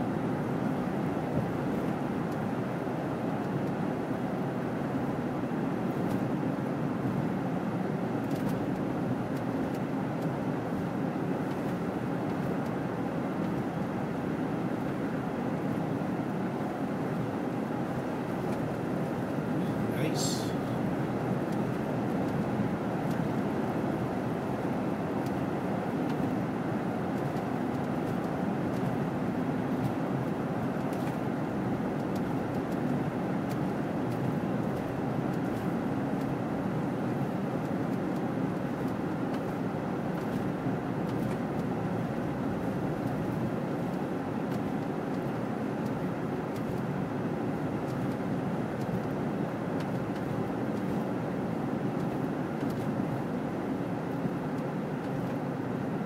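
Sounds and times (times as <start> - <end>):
road and engine noise in cabin: 0.0 - 56.0.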